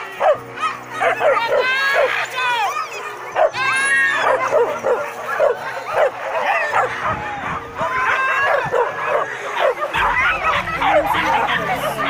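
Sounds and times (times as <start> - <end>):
dogs yelping and whining: 0.0 - 12.0.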